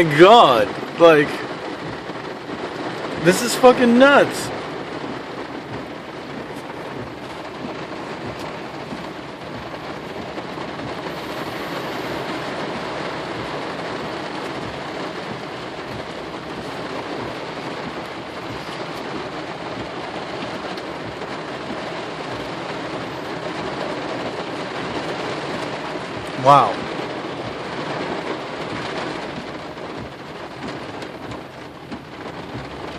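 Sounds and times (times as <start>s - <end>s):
flood water rushing around car: 0.0s - 32.9s
heavy rain on a car: 0.0s - 32.9s.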